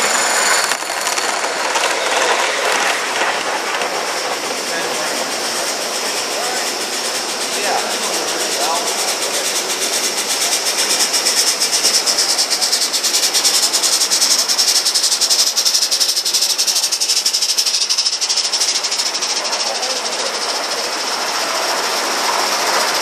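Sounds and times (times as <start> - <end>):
steady hiss of steam: 0.0 - 23.0
steam locomotive exhaust chuffs: 0.0 - 23.0.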